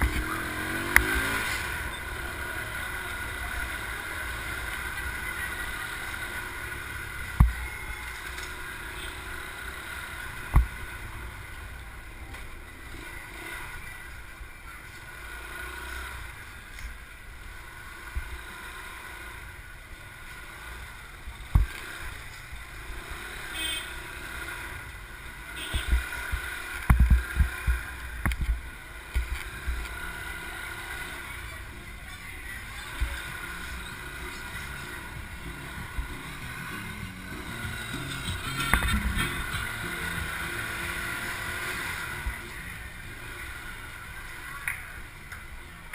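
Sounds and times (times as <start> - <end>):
small motorbike running: 0.0 - 45.9.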